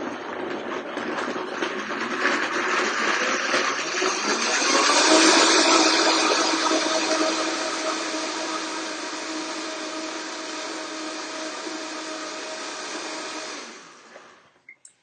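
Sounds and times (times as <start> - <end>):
blender running: 0.0 - 14.6.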